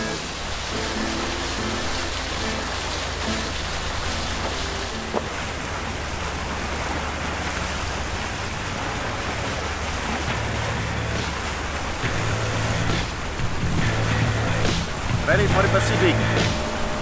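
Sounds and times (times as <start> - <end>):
wind and water rushing: 0.0 - 17.0.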